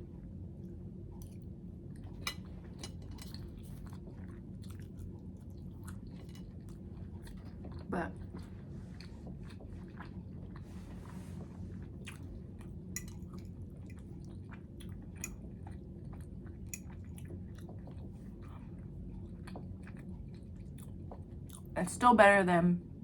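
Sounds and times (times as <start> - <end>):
steady low hum: 0.0 - 23.0
person chewing food: 1.2 - 21.7.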